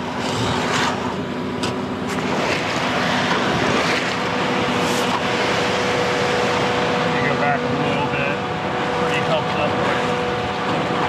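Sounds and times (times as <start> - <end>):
concrete mixer truck running: 0.0 - 11.0.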